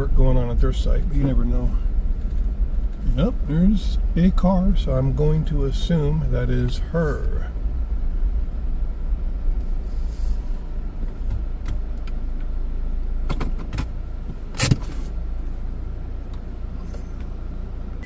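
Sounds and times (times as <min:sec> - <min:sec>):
car engine rumbling in cabin: 0:00.0 - 0:18.0.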